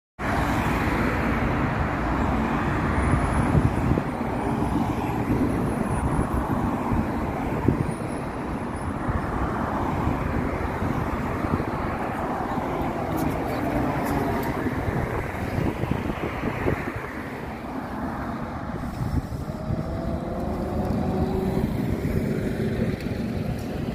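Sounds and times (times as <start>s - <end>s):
cars passing on road: 0.2s - 23.9s.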